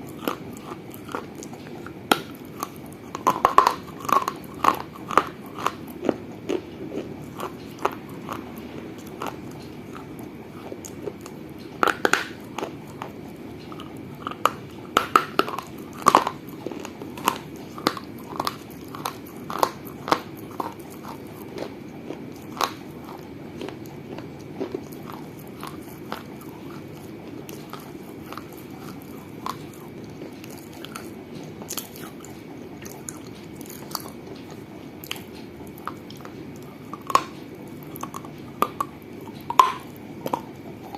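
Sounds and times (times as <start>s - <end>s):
baked clay crunched between teeth: 0.1s - 34.5s, 35.1s - 40.9s.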